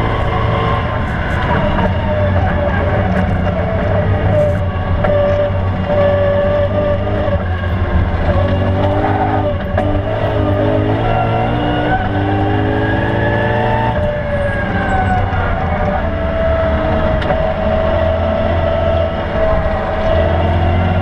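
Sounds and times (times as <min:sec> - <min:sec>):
car engine accelerating: 0:00.0 - 0:21.0
tyre and road rumble: 0:00.0 - 0:21.0.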